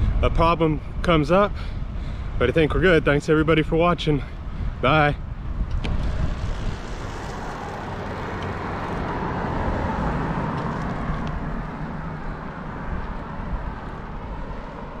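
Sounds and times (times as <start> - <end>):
bicycle road noise: 0.0 - 15.0
wind rush: 0.0 - 15.0.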